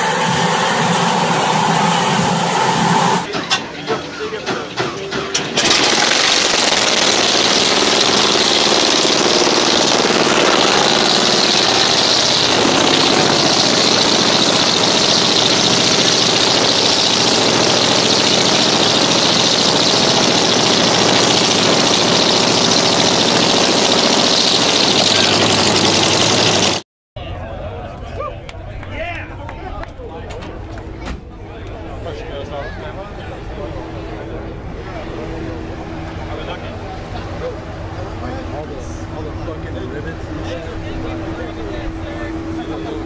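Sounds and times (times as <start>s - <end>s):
radial aircraft engine running hard: 0.0s - 3.3s, 4.7s - 26.8s, 31.6s - 43.0s.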